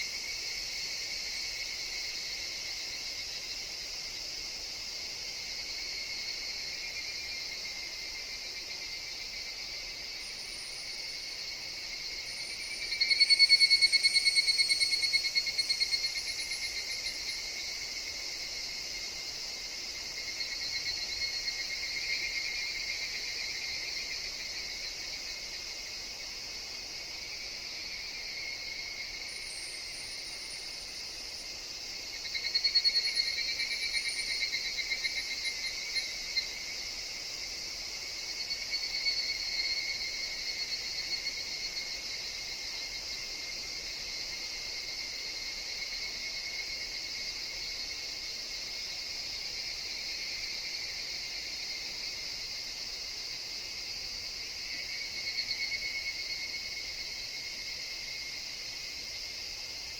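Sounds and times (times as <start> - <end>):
cicadas chorus: 0.0 - 59.9
nearby cicada pulsing call: 0.0 - 59.9.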